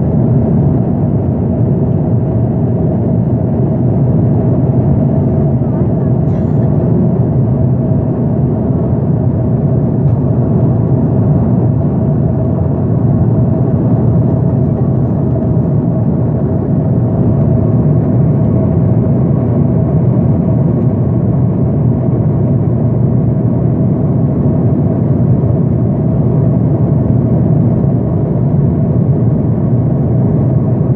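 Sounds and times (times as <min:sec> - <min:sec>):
aircraft engine drone in cabin: 0:00.0 - 0:30.9
constant hum: 0:00.0 - 0:30.9.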